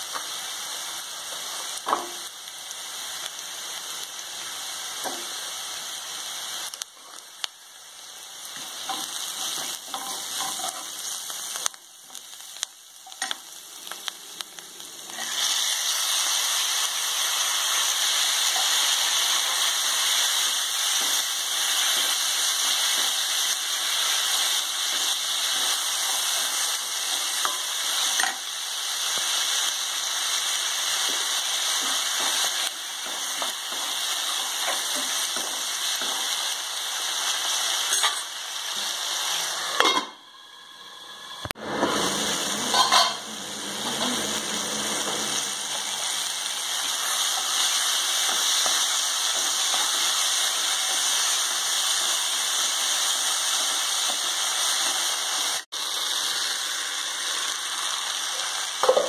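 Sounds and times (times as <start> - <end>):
vegetables frying in oil: 0.0 - 59.0.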